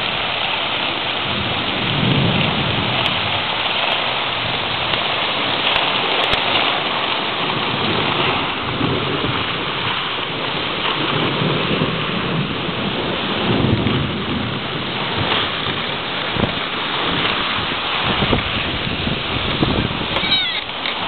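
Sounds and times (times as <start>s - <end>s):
heavy rain pouring: 0.0s - 21.0s
thunder rumbling: 0.0s - 21.0s
wind gusting through trees: 0.0s - 21.0s.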